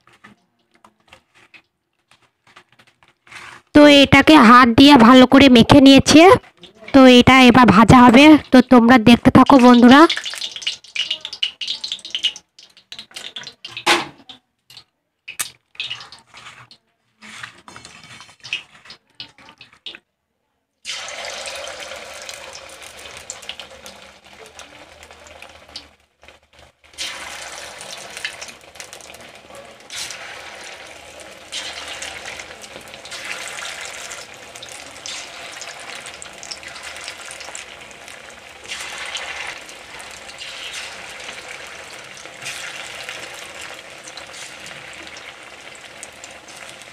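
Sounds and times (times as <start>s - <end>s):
food deep-frying in hot oil: 3.2s - 20.0s, 20.8s - 46.9s.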